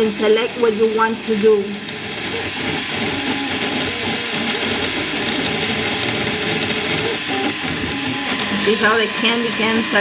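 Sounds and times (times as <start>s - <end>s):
printer motors whining: 0.0s - 10.0s.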